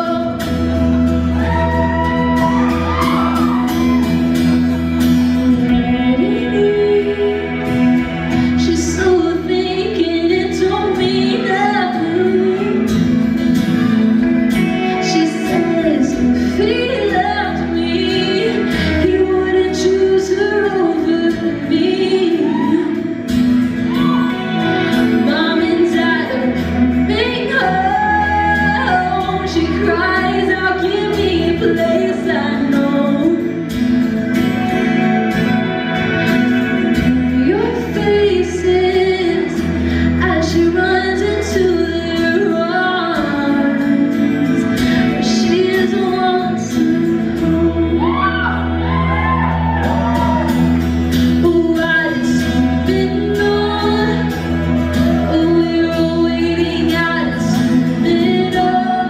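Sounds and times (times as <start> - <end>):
acoustic guitar: 0.0 - 59.0
bass guitar: 0.0 - 59.0
electric guitar: 0.0 - 59.0
woman singing: 0.0 - 59.0.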